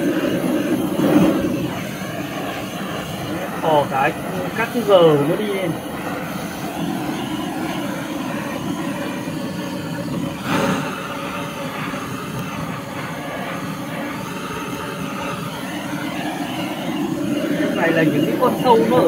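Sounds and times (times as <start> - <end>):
gas torch flame: 0.0 - 19.0.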